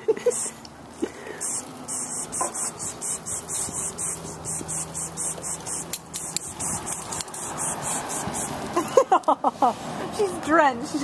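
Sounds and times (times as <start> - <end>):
sprinkler spraying pulsing hiss: 0.1 - 9.8.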